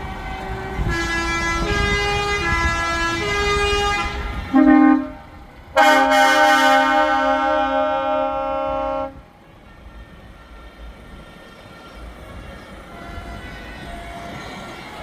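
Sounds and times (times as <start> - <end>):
engine rumble: 0.0 - 15.0
truck air horn: 0.3 - 14.5.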